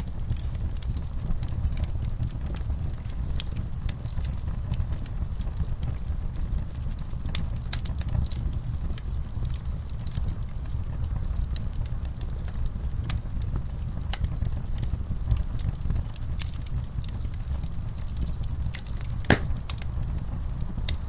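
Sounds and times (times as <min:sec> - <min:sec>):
low rumble of flames: 0:00.0 - 0:21.0
wood fire crackling and popping: 0:00.0 - 0:21.0.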